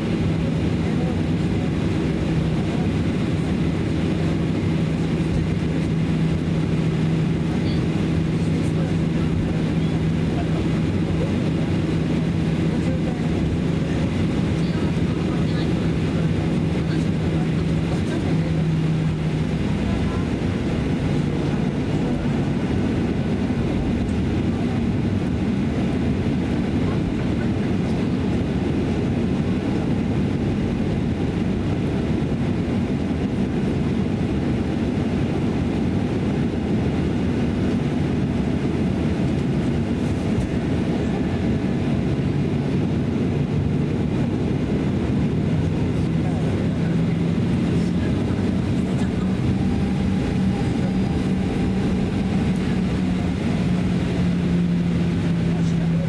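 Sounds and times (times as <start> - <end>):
jet engine rumble in cabin: 0.0 - 56.0
low hum: 0.0 - 56.0.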